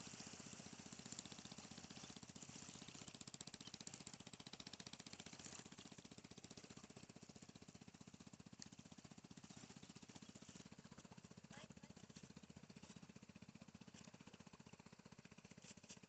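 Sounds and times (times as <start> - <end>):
distant boat engine chugging: 0.0 - 15.0.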